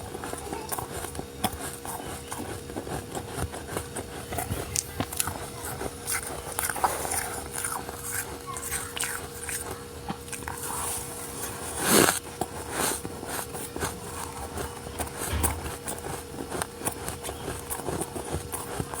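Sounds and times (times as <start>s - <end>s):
frost being chewed: 0.0s - 19.0s.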